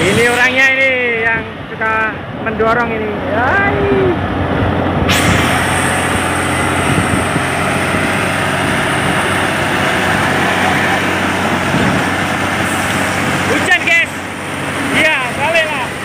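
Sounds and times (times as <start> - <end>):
truck engine running: 2.2 - 16.0.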